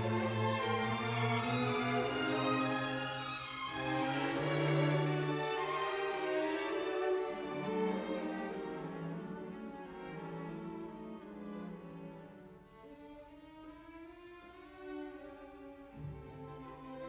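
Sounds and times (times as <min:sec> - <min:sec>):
bowed strings music: 0:00.0 - 0:17.0.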